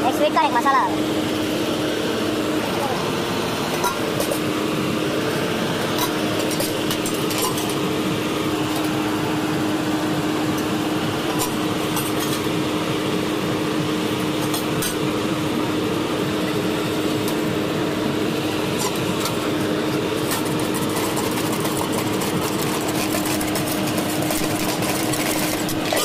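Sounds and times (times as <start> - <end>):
constant low hum: 0.0 - 26.0.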